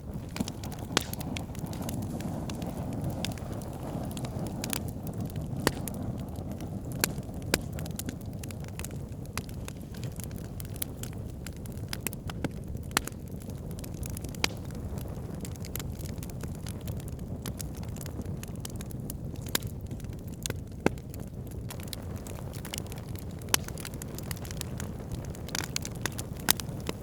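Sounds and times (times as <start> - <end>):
campfire burning: 0.0 - 27.0
fire crackles and pops: 0.0 - 27.0.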